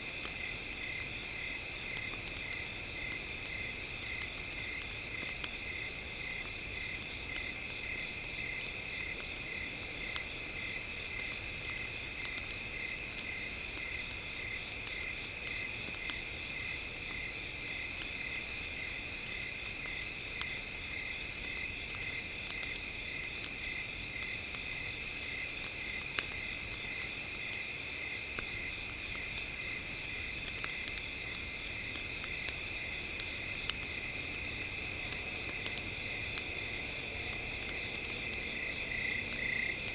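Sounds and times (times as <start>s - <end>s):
campfire crackling: 0.0s - 39.9s
crickets chirping: 0.1s - 39.9s.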